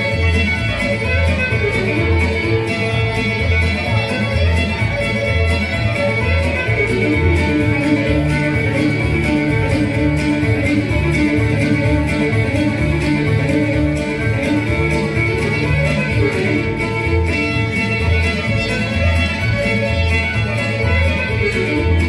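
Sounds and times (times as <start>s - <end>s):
fiddle playing jig: 0.0s - 22.0s
strummed guitar: 0.0s - 22.0s.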